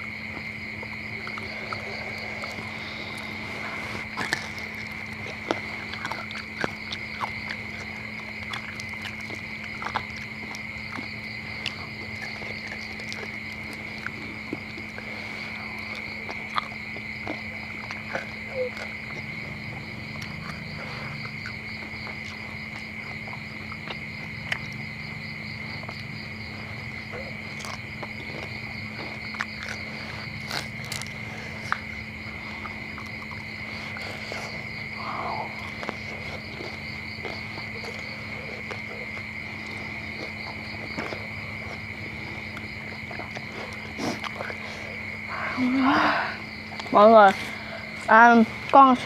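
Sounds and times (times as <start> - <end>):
crickets trilling: 0.0 - 49.0
crunching while eating: 0.0 - 49.0.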